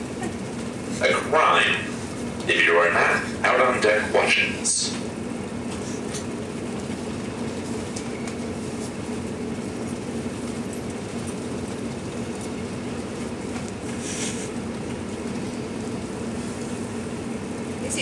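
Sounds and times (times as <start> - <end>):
ship machinery humming: 0.0 - 18.0.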